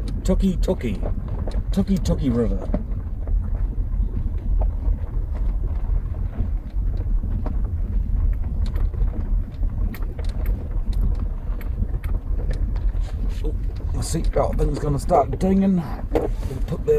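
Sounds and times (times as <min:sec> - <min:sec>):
car rumbling on rough track: 0:00.0 - 0:16.9
small knocks and ticks: 0:00.0 - 0:16.9.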